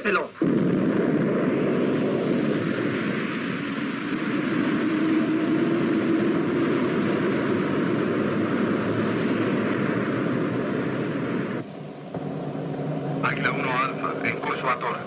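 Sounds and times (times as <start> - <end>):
low hum: 0.3 - 15.0
rocket engine rushing hiss: 0.4 - 15.0.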